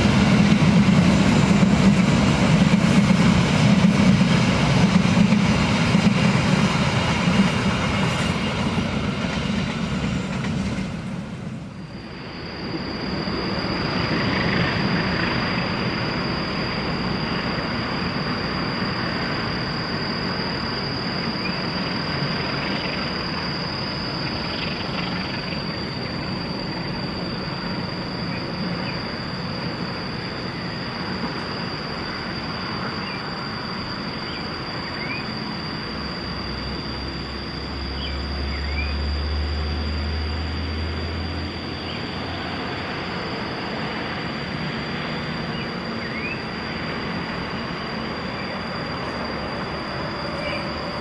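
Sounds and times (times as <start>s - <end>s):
passenger train rumbling past: 0.0s - 51.0s.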